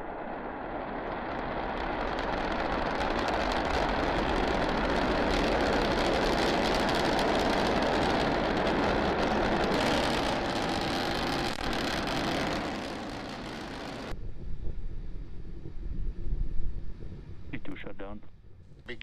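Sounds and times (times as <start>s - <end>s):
rocket engines roaring: 0.0s - 15.9s, 16.6s - 19.0s.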